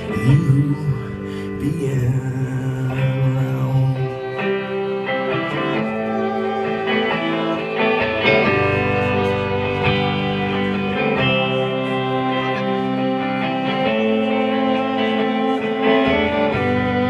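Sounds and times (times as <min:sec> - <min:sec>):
guitar chords ringing: 0:00.0 - 0:17.0
live band playing: 0:00.0 - 0:17.0.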